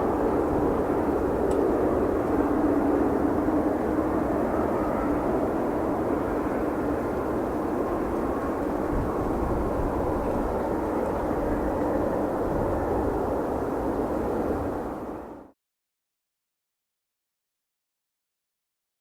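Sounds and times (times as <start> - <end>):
jet engines rumbling: 0.0 - 15.5.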